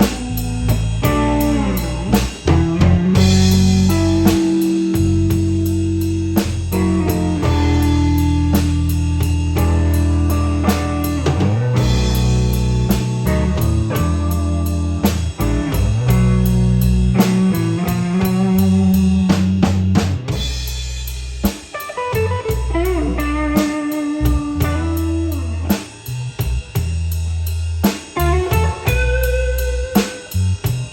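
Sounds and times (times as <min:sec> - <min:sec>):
electric guitar bent notes: 0:00.0 - 0:20.7, 0:21.6 - 0:26.8, 0:28.2 - 0:30.8
bass guitar: 0:00.0 - 0:30.9
drum kit beat: 0:00.0 - 0:30.9.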